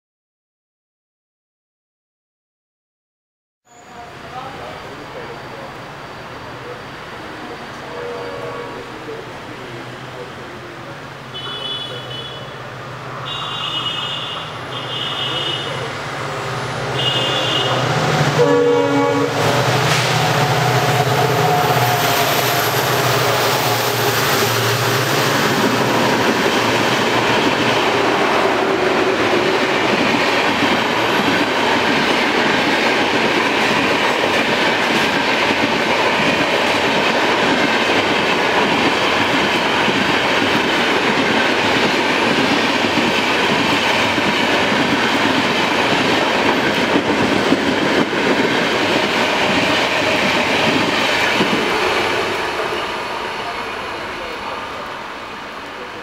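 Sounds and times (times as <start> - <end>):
train wheels rushing on rail: 3.9 - 56.0.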